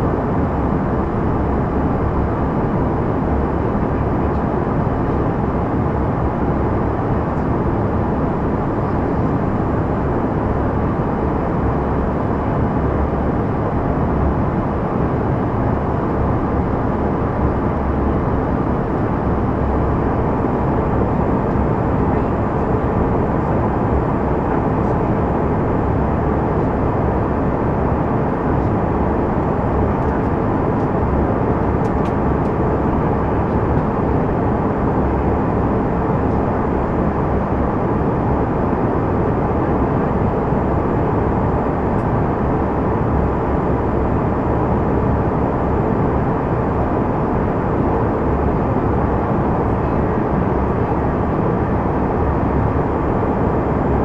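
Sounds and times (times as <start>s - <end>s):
jet cabin noise roar: 0.0s - 54.0s.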